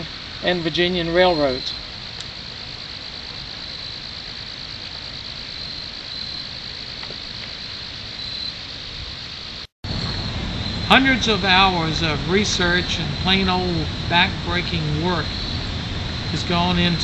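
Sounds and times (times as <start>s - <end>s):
crickets chirping: 0.0s - 17.0s
faint outdoor background noise: 0.0s - 17.0s.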